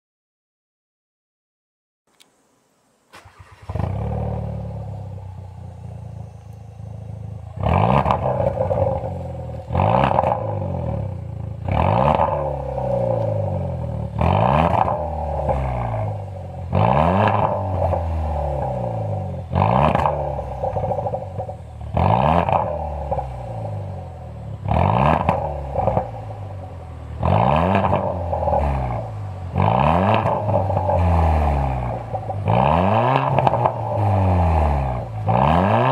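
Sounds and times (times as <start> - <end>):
car engine starting: 2.1 - 35.9
car engine idling and revving: 3.1 - 35.9.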